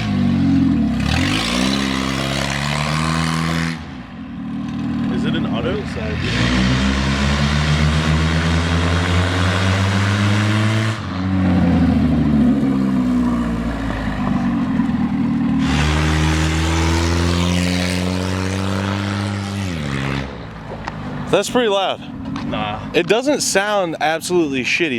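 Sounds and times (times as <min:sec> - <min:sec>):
car engine and exhaust accelerating: 0:00.0 - 0:24.9.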